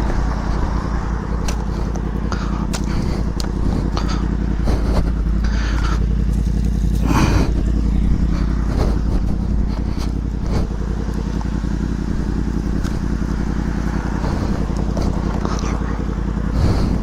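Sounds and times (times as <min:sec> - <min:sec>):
knocks and clatter: 0:00.0 - 0:17.0
motorcycle engine idling: 0:00.0 - 0:17.0.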